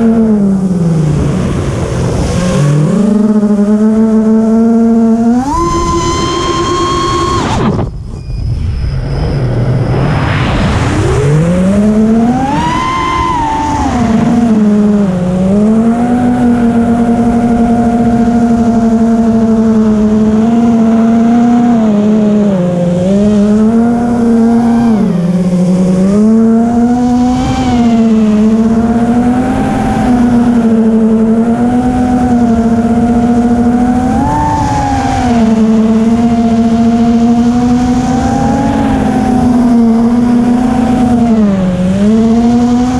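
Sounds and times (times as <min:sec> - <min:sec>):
quadcopter motors whining: 0:00.0 - 0:10.3, 0:10.9 - 0:42.9.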